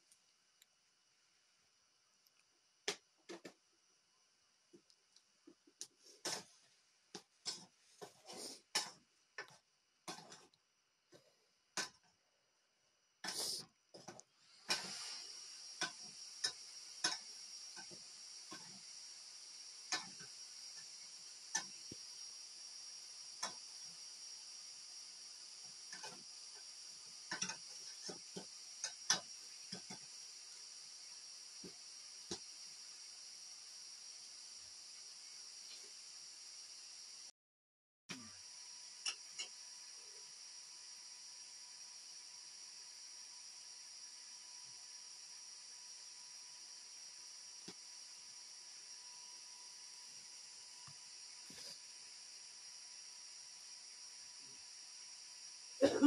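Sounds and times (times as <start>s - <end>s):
steady high hiss: 0.0s - 12.2s, 12.8s - 37.3s, 38.1s - 56.0s.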